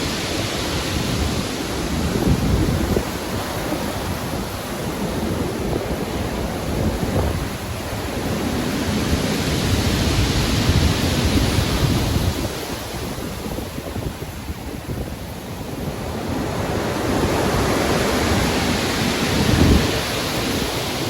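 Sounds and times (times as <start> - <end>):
sea waves breaking: 0.0 - 21.0
wind: 0.0 - 21.0.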